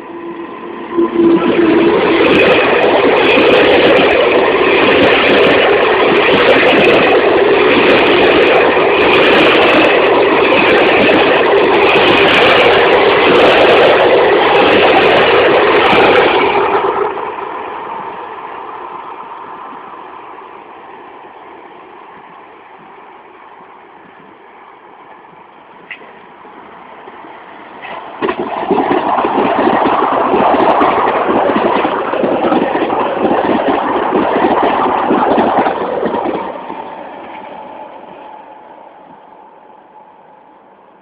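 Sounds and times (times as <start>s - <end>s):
train passing at speed: 0.0s - 41.0s.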